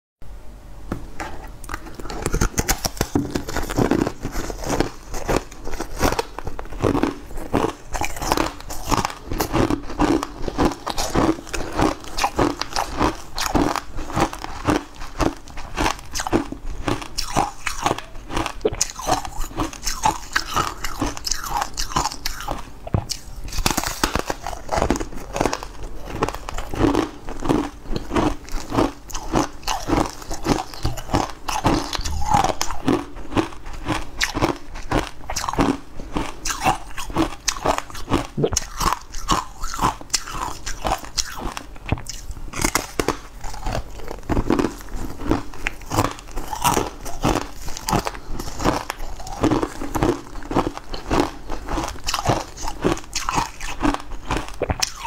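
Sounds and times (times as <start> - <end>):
chewing: 1.2 - 55.0
dry cake crunching: 1.6 - 55.0.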